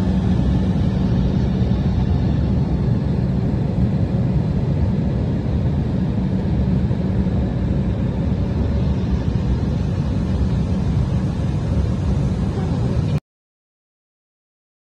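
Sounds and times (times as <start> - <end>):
jet engines rumbling in cabin: 0.0 - 13.2.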